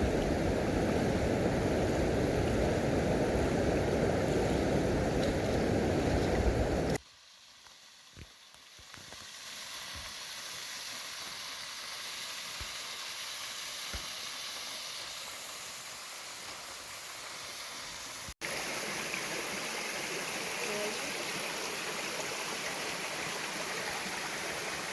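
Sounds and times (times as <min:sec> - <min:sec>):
rushing water hiss: 0:00.0 - 0:24.9.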